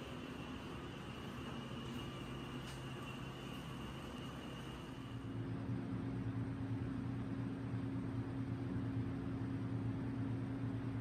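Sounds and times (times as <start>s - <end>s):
electrical motor hum: 0.0s - 11.0s.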